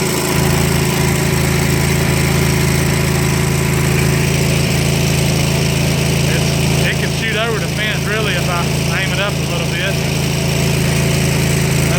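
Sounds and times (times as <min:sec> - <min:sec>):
pressure washer engine running: 0:00.0 - 0:11.9.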